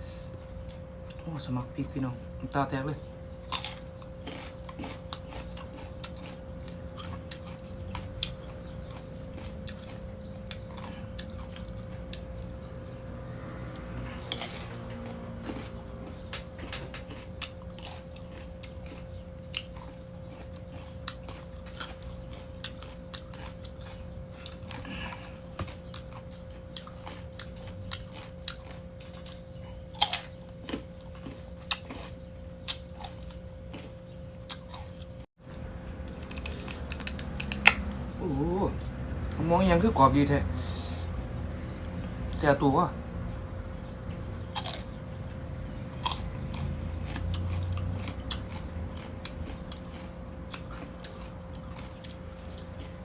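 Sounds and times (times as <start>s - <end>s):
steady low hum: 0.0s - 53.0s
mango being bitten and chewed: 3.3s - 53.0s.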